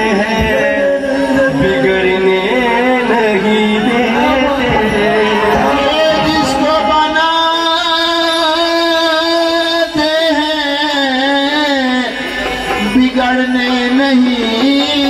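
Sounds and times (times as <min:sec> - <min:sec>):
qawwali singing held melody: 0:00.0 - 0:15.0.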